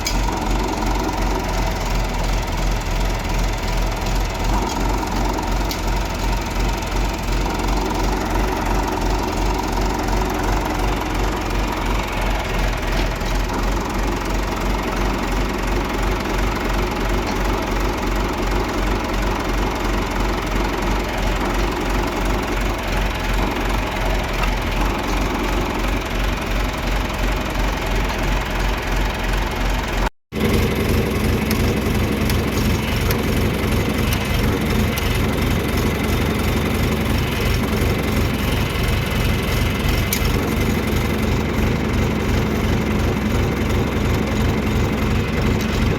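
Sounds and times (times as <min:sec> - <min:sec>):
tractor diesel engine idling: 0:00.0 - 0:45.9.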